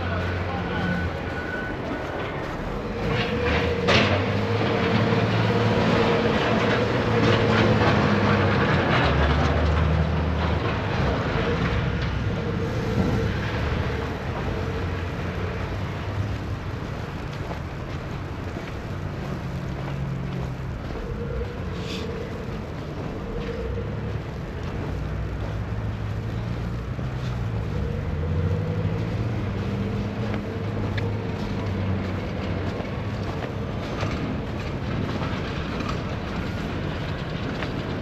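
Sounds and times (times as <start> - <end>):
heavy vehicle passing: 0.0 - 38.0.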